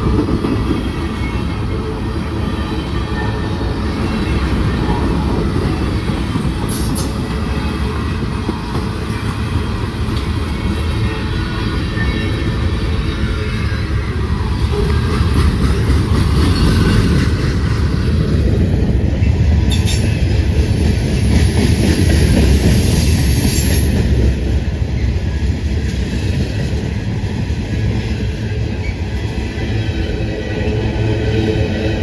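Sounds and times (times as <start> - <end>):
freight train rumbling past: 0.0 - 32.0.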